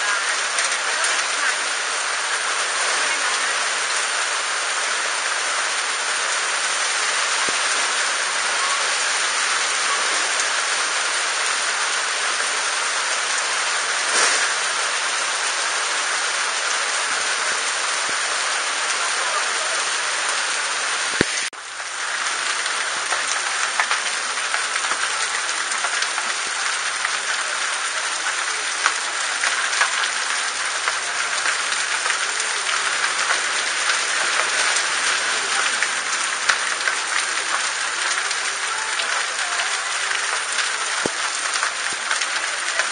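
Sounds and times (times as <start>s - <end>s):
heavy rain on awnings: 0.0s - 42.9s.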